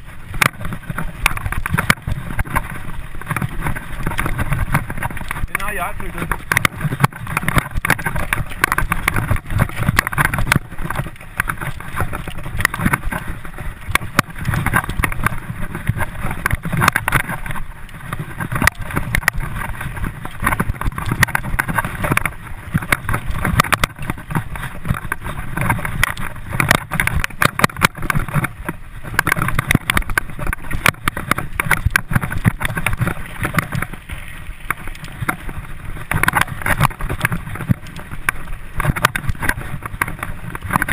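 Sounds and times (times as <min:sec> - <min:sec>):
bike clattering and rattling: 0:00.0 - 0:40.9
tyre and wind rumble: 0:00.0 - 0:40.9.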